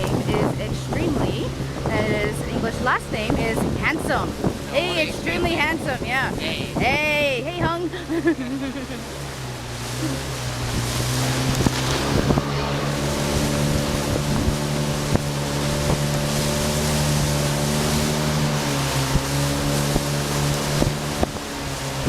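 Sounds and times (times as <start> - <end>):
speedboat engine running: 0.0 - 22.0
wind buffeting microphone: 0.0 - 22.0.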